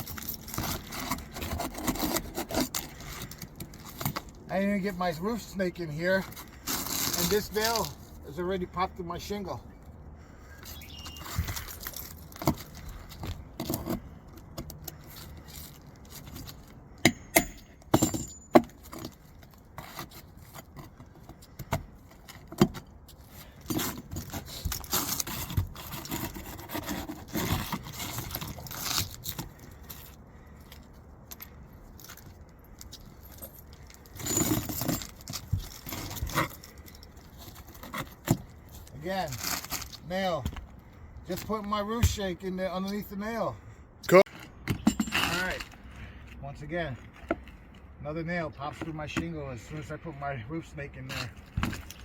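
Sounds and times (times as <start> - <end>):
metal tool scraping under shingles: 0.0 - 9.5, 10.2 - 43.0, 44.2 - 47.8, 48.6 - 52.0.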